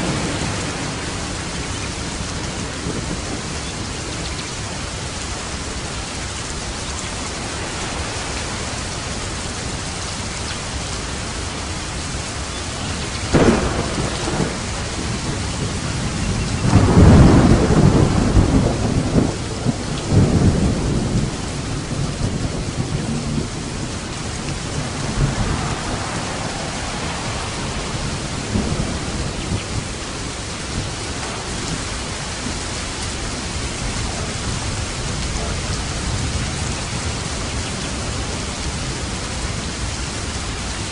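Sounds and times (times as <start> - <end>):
heavy rain: 0.0 - 40.9
thunder crack and rumble: 0.0 - 40.9.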